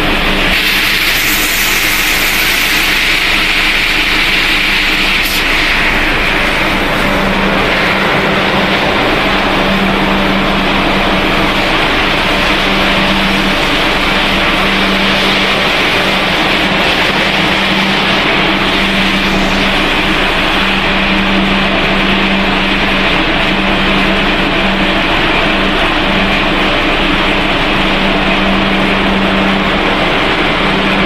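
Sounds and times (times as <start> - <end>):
production line machinery whirring: 0.0 - 31.0.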